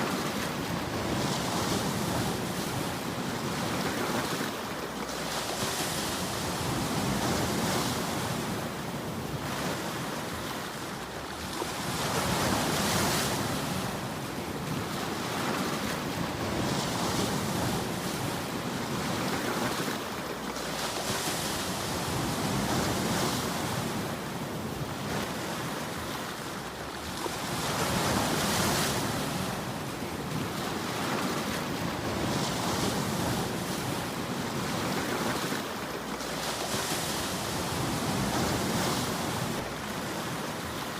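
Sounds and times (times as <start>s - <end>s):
waves breaking on rocks: 0.0s - 40.9s
wind on microphone: 0.0s - 40.9s.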